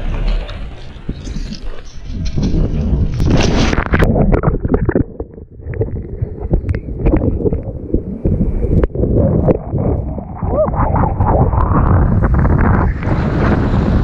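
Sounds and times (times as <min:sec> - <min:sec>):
water splashing: 0:00.0 - 0:14.0
wind buffeting microphone: 0:00.0 - 0:14.0.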